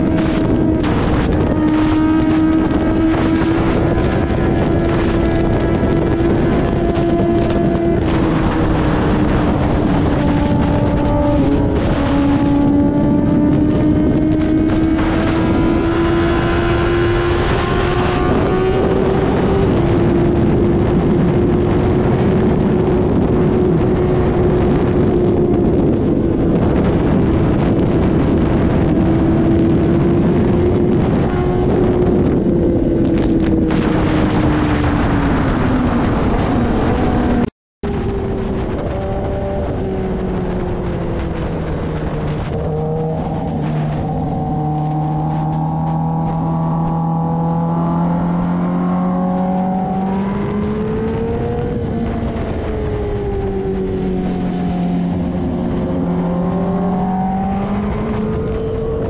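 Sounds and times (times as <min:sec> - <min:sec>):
motorcycle engine at speed: 0:00.0 - 0:59.0
wind rushing over microphone: 0:00.0 - 0:59.0.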